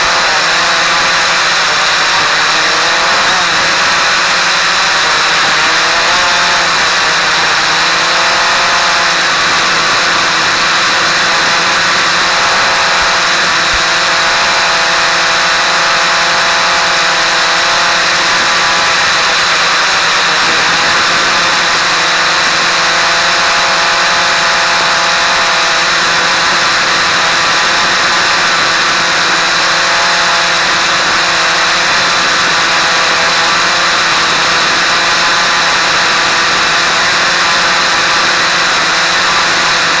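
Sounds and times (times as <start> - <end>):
quadcopter propellers whirring: 0.0 - 40.0.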